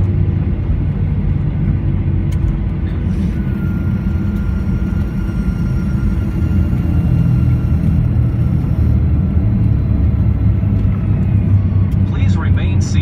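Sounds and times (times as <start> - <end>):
faint steady whine: 0.0 - 13.0
low jet engine rumble: 0.0 - 13.0.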